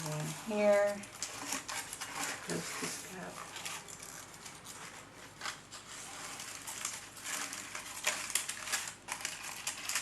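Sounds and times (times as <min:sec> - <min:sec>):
craft flowers rustling: 0:00.0 - 0:10.0.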